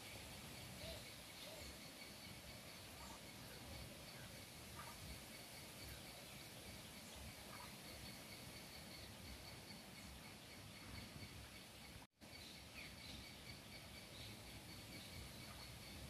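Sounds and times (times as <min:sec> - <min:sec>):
faint bird chirps: 0:00.0 - 0:16.0
high insect hum: 0:00.0 - 0:16.0.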